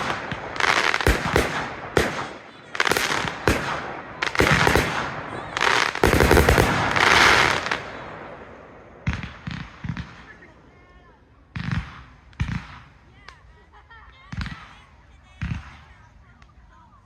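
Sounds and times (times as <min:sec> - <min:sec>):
fireworks bangs: 0:00.0 - 0:16.6
fireworks crackling hiss: 0:00.0 - 0:17.0.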